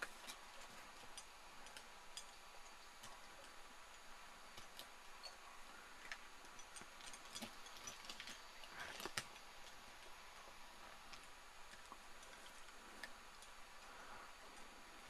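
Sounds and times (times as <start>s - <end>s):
faint steady hiss: 0.0s - 15.0s
light irregular clicks: 0.0s - 15.0s.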